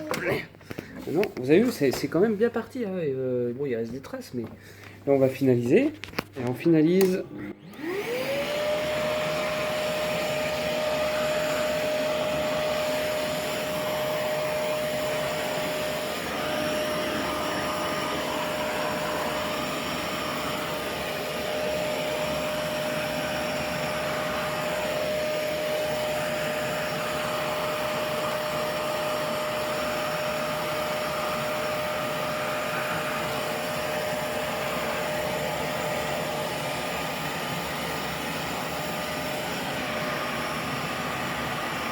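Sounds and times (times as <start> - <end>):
vacuum cleaner motor whine: 7.0 - 41.9.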